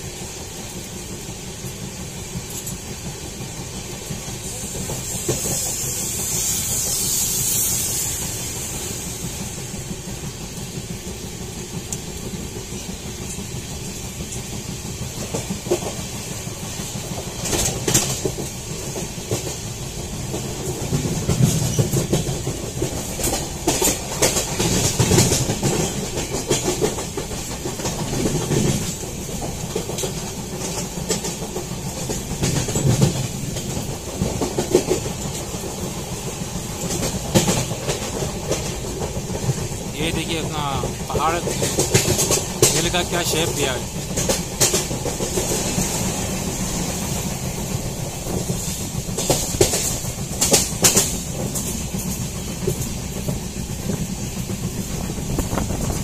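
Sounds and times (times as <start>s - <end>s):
train wheels rumbling on rails: 0.0s - 56.0s
wheels clickety-clack: 0.0s - 56.0s.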